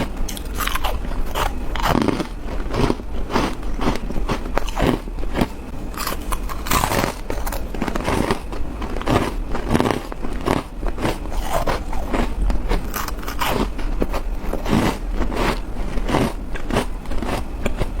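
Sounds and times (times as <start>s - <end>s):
person chewing: 0.0s - 18.0s
ice crunching between teeth: 0.3s - 17.9s.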